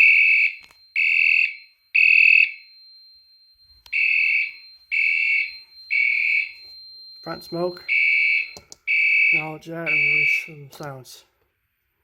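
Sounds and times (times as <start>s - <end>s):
fire alarm high beeps: 0.0s - 10.8s.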